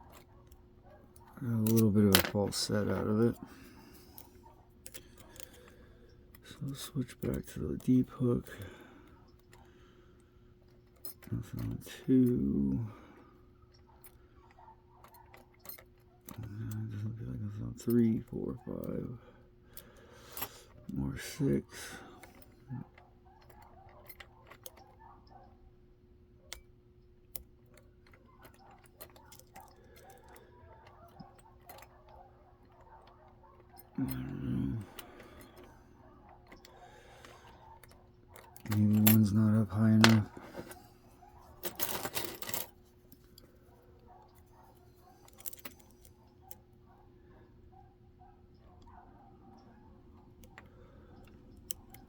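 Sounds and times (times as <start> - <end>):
lock pick clicking in a lock: 0.0 - 52.0.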